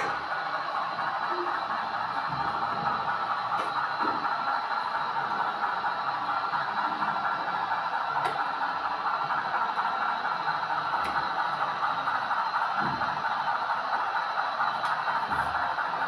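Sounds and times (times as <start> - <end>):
wheels clattering on rails: 0.0 - 16.0.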